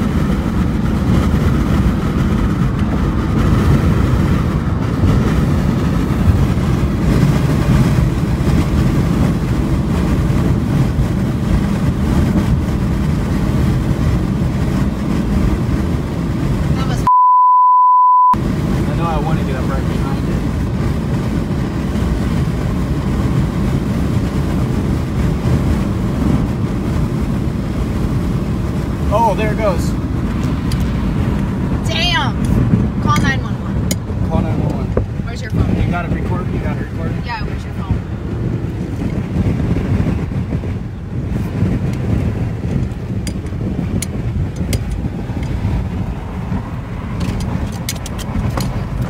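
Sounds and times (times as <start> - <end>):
car road noise rumble: 0.0 - 17.2, 18.2 - 49.0.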